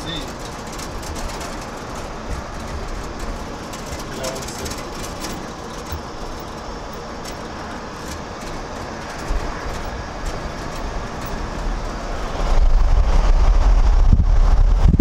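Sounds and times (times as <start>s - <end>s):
engine and road noise: 0.0s - 15.0s
wind buffeting microphone: 0.0s - 15.0s.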